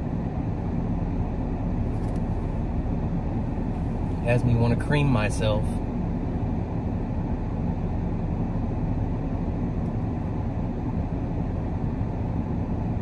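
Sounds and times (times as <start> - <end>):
road and engine drone in cab: 0.0 - 13.0.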